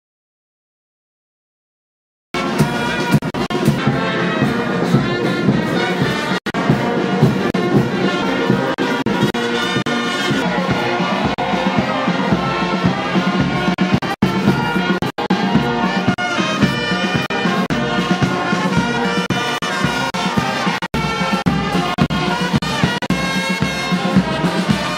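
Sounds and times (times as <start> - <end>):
brass band music: 2.4 - 24.9.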